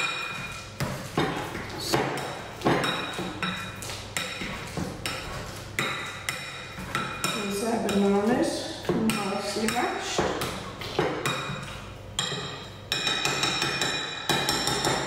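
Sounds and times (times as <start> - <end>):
masher mashing bananas: 0.0 - 15.0.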